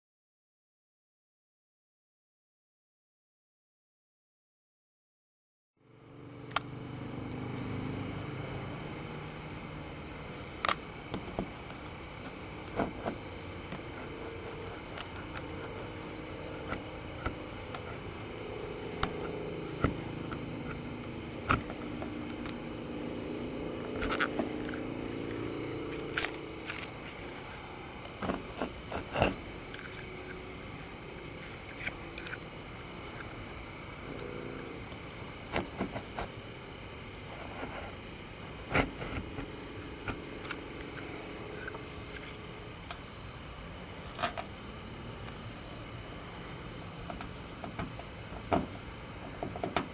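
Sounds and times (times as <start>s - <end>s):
crickets trilling: 5.8s - 49.9s.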